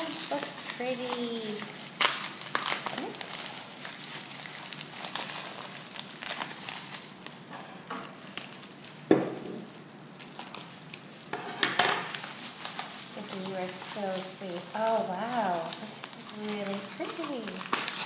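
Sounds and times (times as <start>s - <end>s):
gift wrapping rustling and crinkling: 0.0s - 18.0s.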